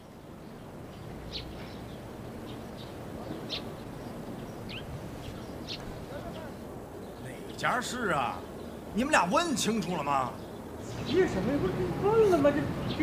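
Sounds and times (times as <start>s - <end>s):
high bird chirps: 0.0s - 11.5s
background hiss: 0.0s - 13.0s.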